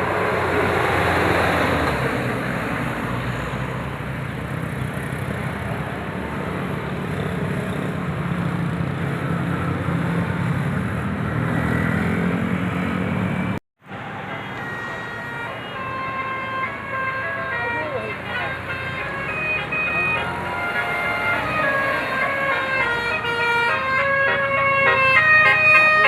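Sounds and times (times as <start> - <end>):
bus engine running: 0.0 - 26.0
road and traffic noise: 0.0 - 26.0.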